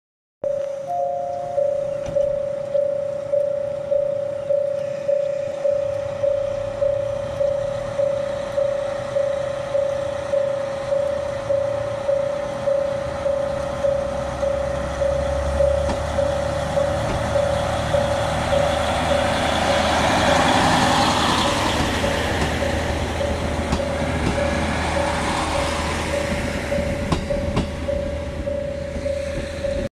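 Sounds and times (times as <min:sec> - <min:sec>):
pulsing electronic warning tone: 0:00.4 - 0:29.9
diesel railcar engine: 0:00.9 - 0:29.9
train wheels on rails: 0:01.9 - 0:29.9.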